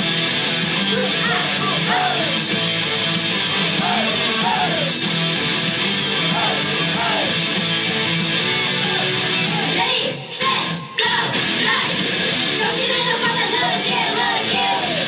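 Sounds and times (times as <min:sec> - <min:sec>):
pop-rock song with electric guitar: 0:00.0 - 0:15.0.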